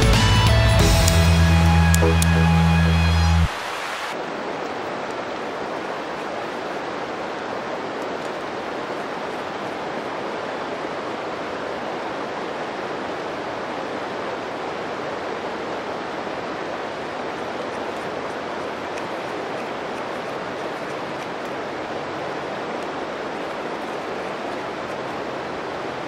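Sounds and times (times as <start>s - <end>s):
flowing river water: 0.4s - 26.0s.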